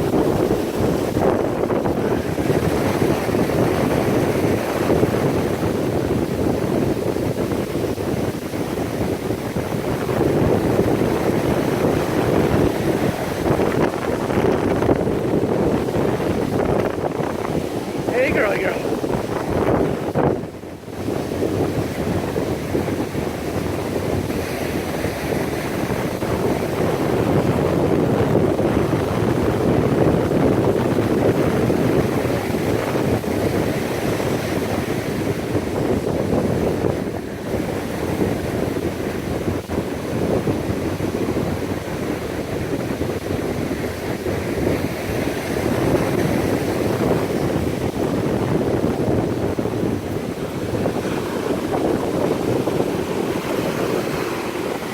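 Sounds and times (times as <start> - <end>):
surf rushing on beach: 0.0 - 54.9
wind buffeting microphone: 0.0 - 54.9.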